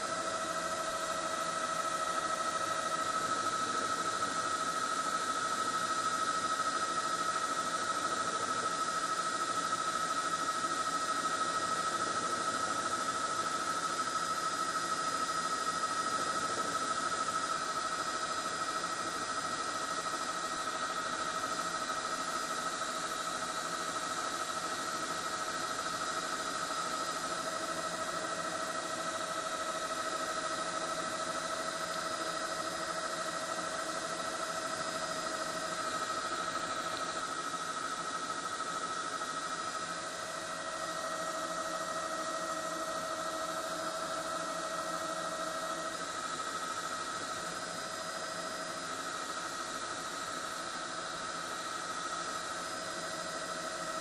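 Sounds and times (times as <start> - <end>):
helicopter engine and rotor: 0.0 - 54.0
turbine whine: 0.0 - 54.0.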